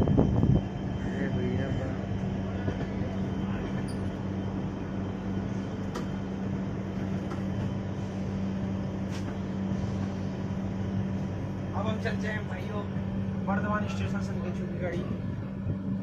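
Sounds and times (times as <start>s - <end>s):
train coach hum and rumble: 0.0s - 16.0s.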